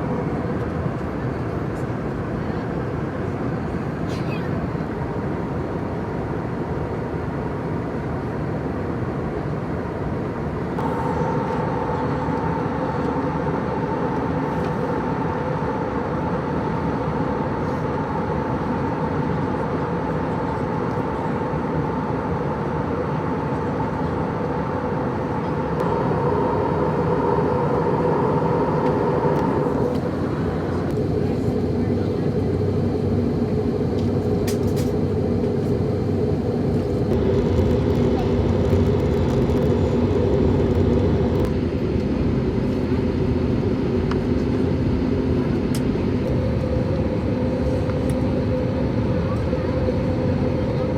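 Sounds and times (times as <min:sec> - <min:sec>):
airliner cabin engine drone: 0:00.0 - 0:50.9.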